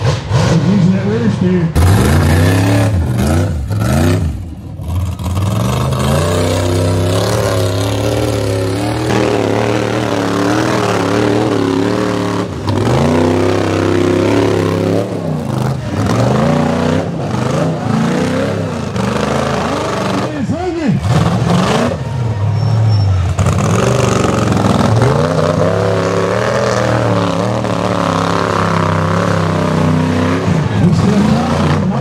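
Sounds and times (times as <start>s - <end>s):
buggy engines revving hard: 0.0s - 32.0s.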